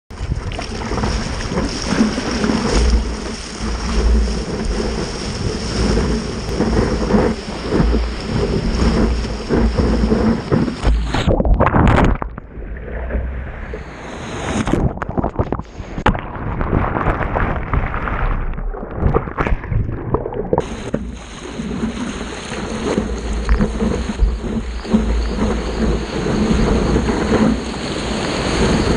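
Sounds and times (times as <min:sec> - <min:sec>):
waves splashing: 0:00.1 - 0:28.9
wind buffeting microphone: 0:00.1 - 0:28.9.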